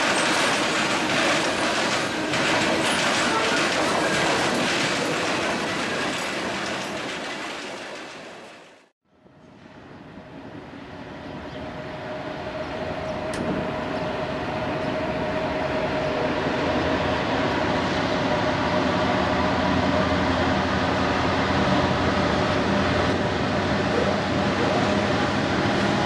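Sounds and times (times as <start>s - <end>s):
diesel locomotive engines droning: 0.0s - 26.0s.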